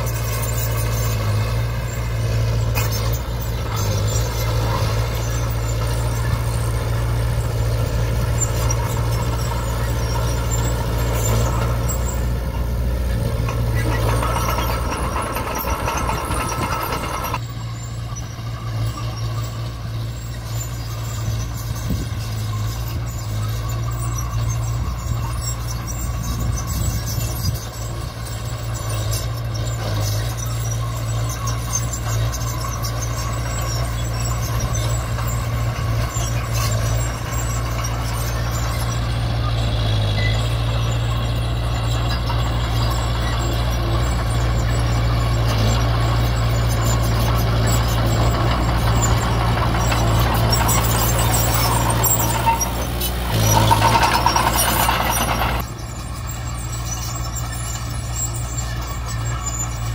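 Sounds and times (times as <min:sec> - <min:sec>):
diesel machinery engine drone: 0:00.0 - 0:59.9
machinery squealing and clatter: 0:00.0 - 0:59.9.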